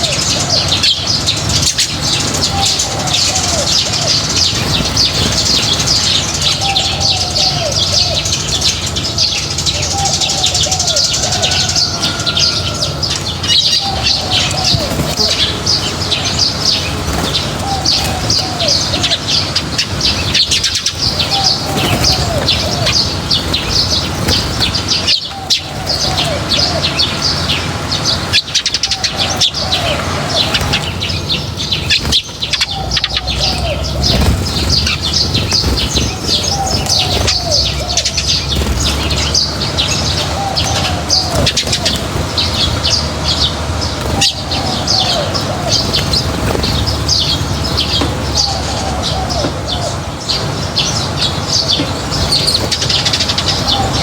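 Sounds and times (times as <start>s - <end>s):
lower bird call: 0.0s - 54.0s
small birds chirping: 0.0s - 54.0s.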